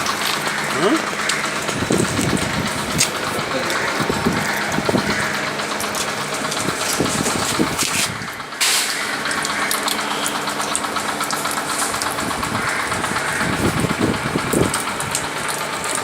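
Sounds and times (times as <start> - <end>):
steam boiler machinery running: 0.0 - 16.0.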